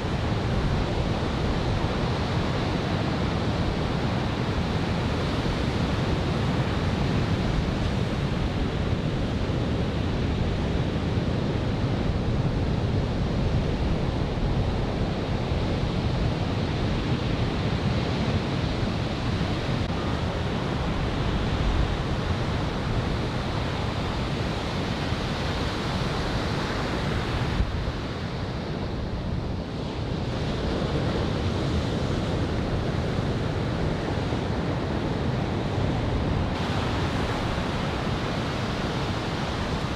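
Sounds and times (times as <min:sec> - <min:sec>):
ocean surf on a beach: 0:00.0 - 0:39.9
wind buffeting the microphone: 0:00.0 - 0:39.9.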